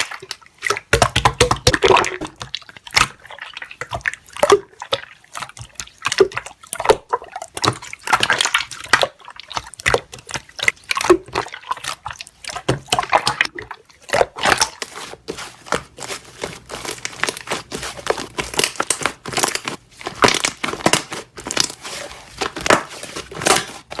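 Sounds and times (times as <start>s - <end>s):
air bubbles popping and crackling: 0.0s - 24.0s.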